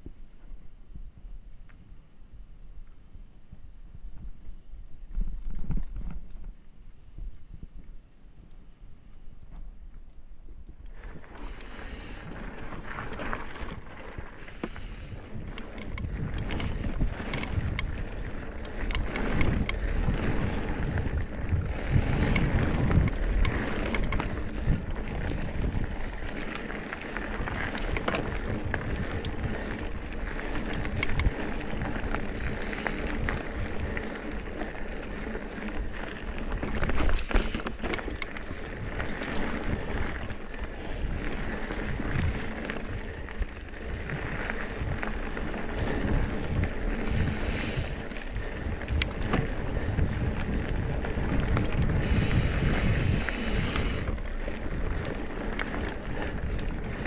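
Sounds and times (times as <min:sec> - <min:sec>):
wind on microphone: 0:00.0 - 0:09.7, 0:10.4 - 0:57.0
bike tyres rolling on dirt: 0:00.0 - 0:57.0
bike rattles and knocks: 0:10.8 - 0:57.0.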